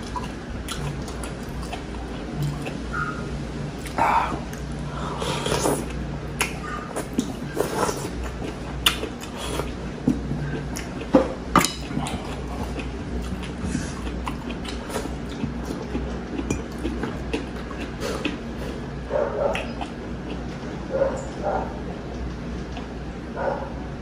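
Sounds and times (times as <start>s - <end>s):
slurping and chewing: 0.0s - 3.2s, 3.8s - 21.4s.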